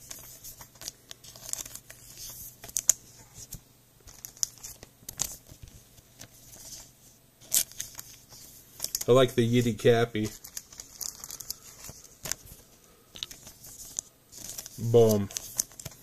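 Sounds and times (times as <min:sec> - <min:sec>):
plastic sleeves crinkling: 0:00.0 - 0:16.0.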